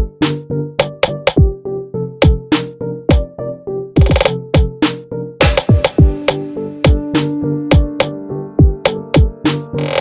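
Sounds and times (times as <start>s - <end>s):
electronic music with drum machine: 0.0s - 1.6s, 2.2s - 3.3s, 4.0s - 10.0s.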